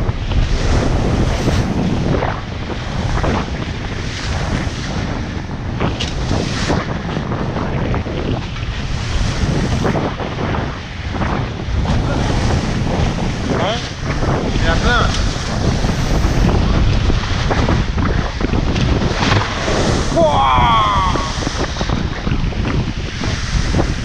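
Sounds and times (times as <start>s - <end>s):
water rushing along boat hull: 0.0s - 24.0s
wind buffeting microphone: 0.0s - 24.0s.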